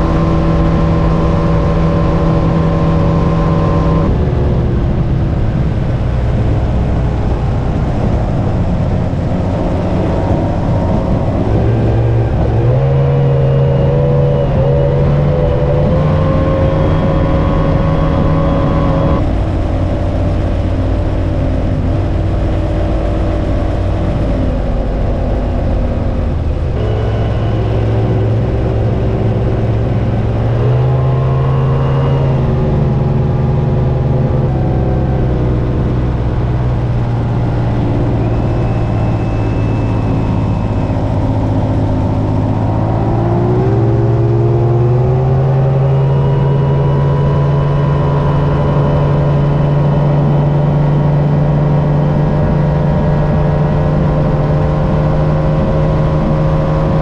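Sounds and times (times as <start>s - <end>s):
outboard motor running: 0.0s - 57.0s
faint high whine: 5.3s - 57.0s.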